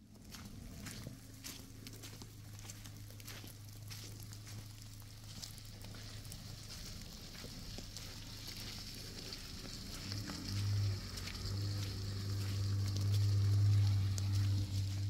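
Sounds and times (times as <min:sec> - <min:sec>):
pickup truck engine driving: 0:00.0 - 0:15.0.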